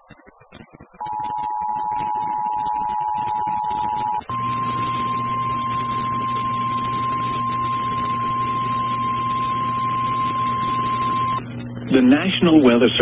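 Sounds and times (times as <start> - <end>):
steady high-pitched alarm tone: 1.0 - 12.8
faint low hum: 1.0 - 13.0
radio hiss: 1.0 - 13.0.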